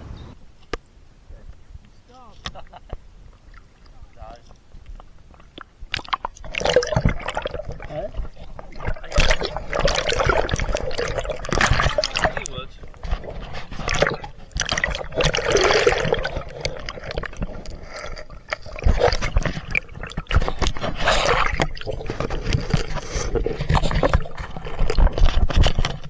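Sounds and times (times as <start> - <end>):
water splashing from swimming: 1.2 - 26.0.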